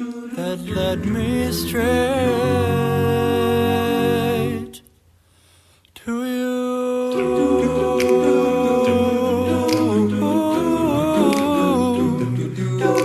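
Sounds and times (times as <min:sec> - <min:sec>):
wordless a cappella humming: 0:00.0 - 0:04.9, 0:06.0 - 0:13.0.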